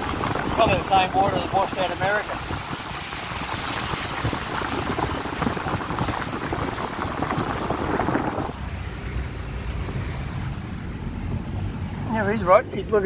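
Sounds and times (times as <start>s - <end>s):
heavy rain pattering on vehicle: 0.0s - 13.0s
vehicle engine running: 0.0s - 13.0s.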